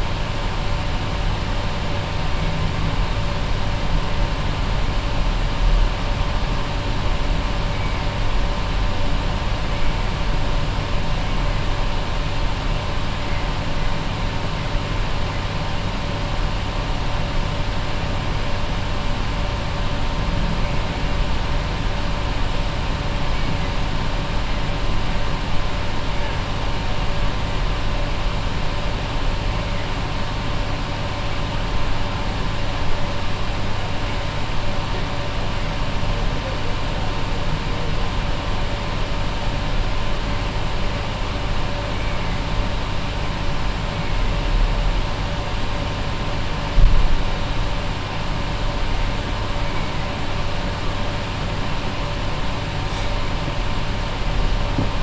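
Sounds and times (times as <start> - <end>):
mechanical hum with hiss: 0.0 - 55.0.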